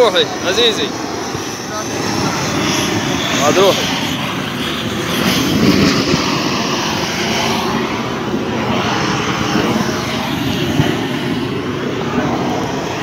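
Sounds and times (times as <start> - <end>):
gas torch burning: 0.0 - 13.0.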